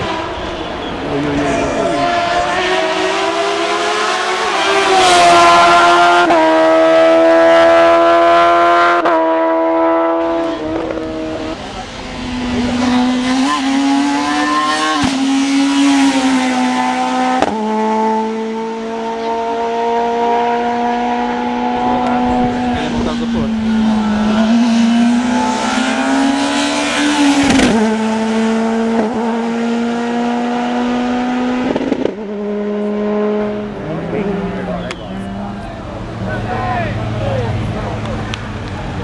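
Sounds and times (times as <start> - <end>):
racing car engine at full throttle: 0.0 - 39.0.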